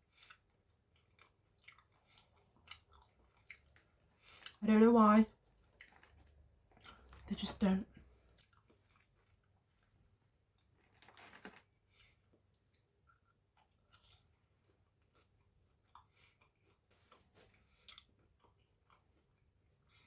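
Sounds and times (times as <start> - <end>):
close-up chewing: 0.0 - 4.6, 5.4 - 7.3, 8.2 - 20.0.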